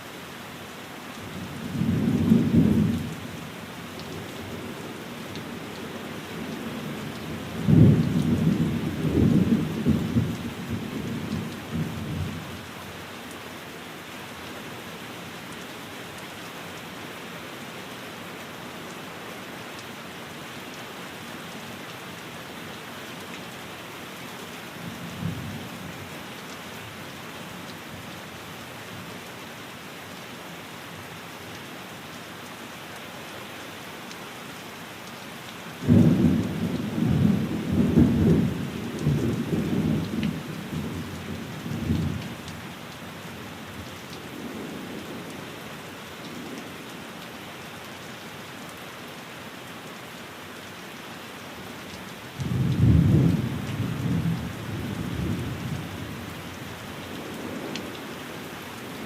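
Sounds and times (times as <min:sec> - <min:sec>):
rain on a window: 0:00.0 - 0:59.0.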